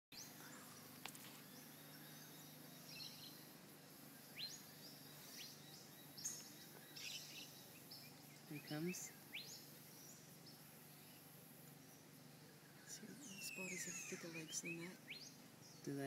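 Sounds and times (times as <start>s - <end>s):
faint bird chirps: 0.2s - 16.0s.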